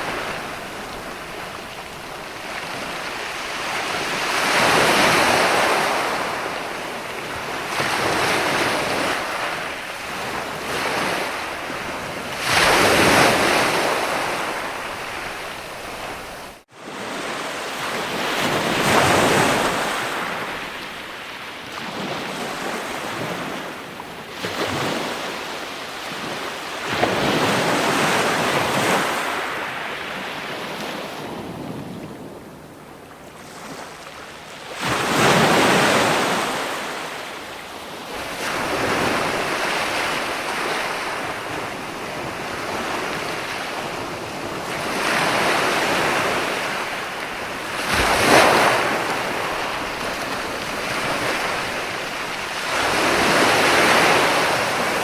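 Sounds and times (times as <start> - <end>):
ocean waves washing in: 0.0 - 22.6, 33.3 - 55.0.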